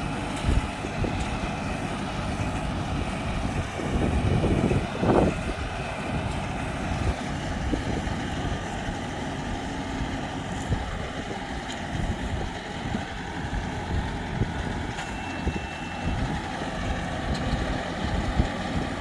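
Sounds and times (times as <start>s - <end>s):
baler machinery noise: 0.0s - 19.0s
tractor engine running: 0.0s - 19.0s.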